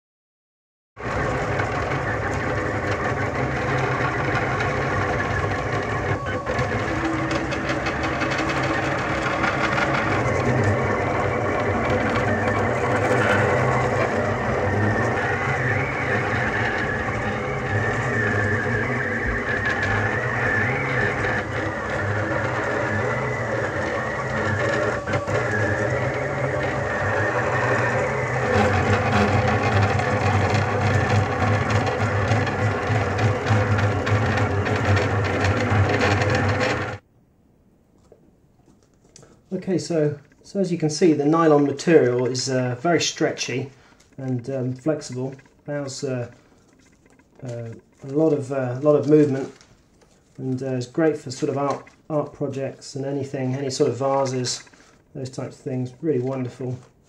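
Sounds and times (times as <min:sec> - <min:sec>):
stepper motors running: 0:01.0 - 0:37.0, 0:39.5 - 0:56.9.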